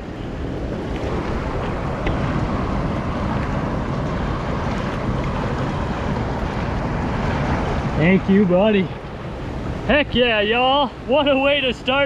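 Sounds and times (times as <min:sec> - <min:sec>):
fast river rushing: 0:00.0 - 0:12.0.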